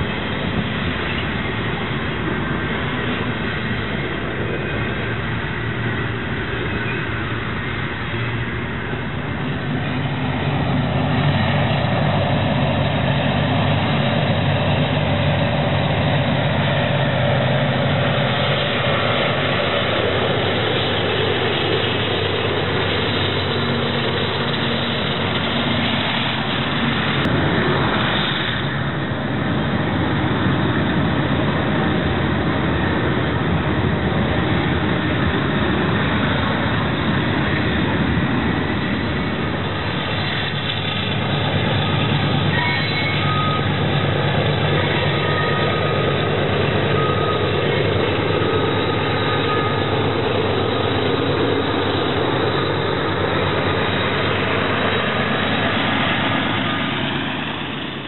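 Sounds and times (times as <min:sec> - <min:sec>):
diesel locomotive hum: 0:00.0 - 0:58.0
train wheels rumbling on rail: 0:00.0 - 0:58.0.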